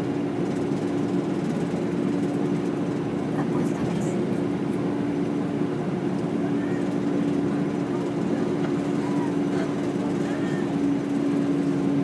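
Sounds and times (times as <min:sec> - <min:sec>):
bus engine and road noise: 0:00.0 - 0:12.0
constant low hum: 0:00.0 - 0:12.0.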